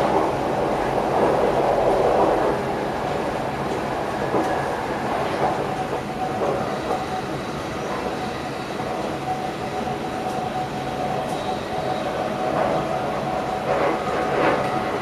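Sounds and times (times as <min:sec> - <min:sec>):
train steady whine: 0:00.0 - 0:15.0
train wheels rumbling on rail: 0:00.0 - 0:15.0.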